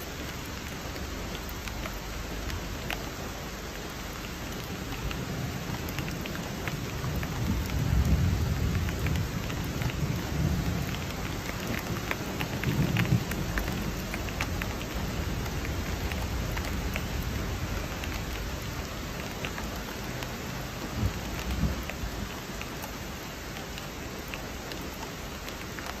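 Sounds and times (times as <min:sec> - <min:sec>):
rain falling: 0:00.0 - 0:26.0
raindrops ticking: 0:00.0 - 0:26.0.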